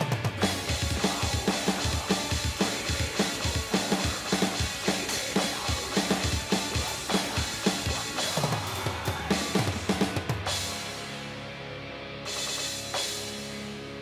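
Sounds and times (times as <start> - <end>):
metal song: 0.0 - 14.0.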